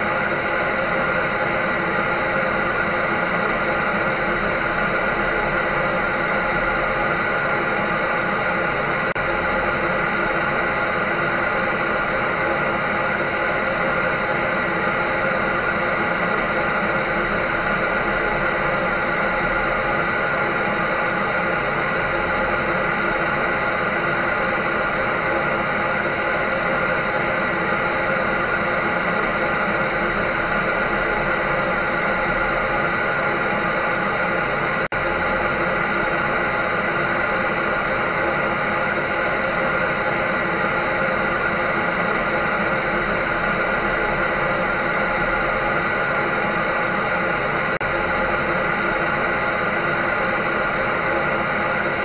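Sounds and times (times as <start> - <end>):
electric dryer humming: 0.0 - 52.0.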